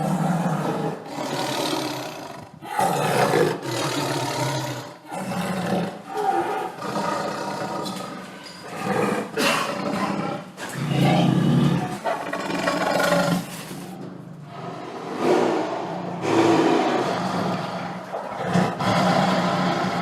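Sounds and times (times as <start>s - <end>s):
tiger roaring and growling: 0.0s - 20.0s.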